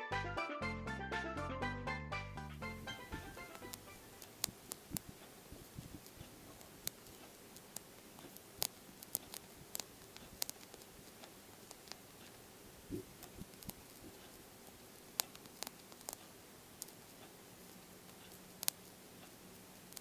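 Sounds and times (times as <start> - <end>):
caterpillar chewing leaf clicks: 3.2 - 17.4, 18.0 - 20.0.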